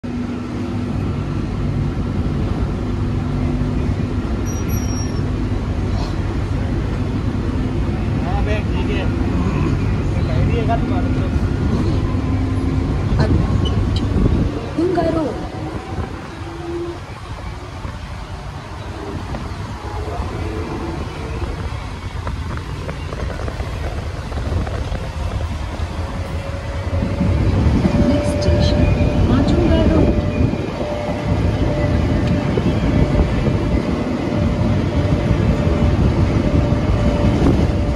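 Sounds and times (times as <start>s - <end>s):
moving train rumble: 0.0s - 37.9s
wind buffeting microphone: 5.2s - 37.9s.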